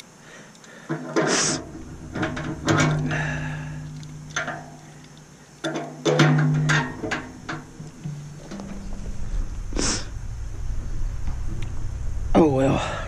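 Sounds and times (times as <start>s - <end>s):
metal scrape: 1.0s - 5.5s, 6.1s - 13.0s
ringing metal knocks: 1.6s - 12.6s.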